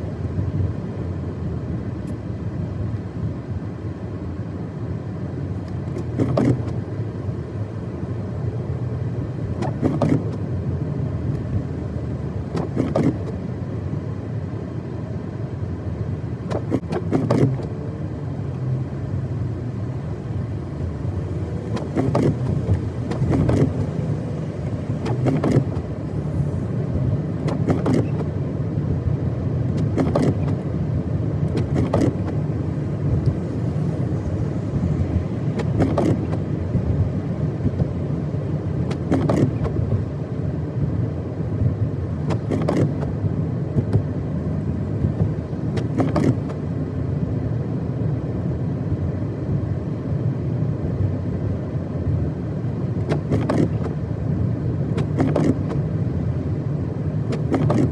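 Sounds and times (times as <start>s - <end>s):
tyres and engine rumble: 0.0s - 57.9s.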